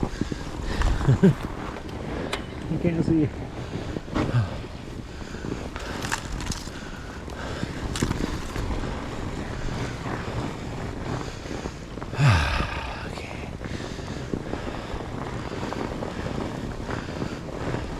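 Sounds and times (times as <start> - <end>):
bike rattles and clicks: 0.0 - 12.2, 13.5 - 17.9
tyre rumble on trail: 0.0 - 17.9
wind on microphone: 0.0 - 17.9.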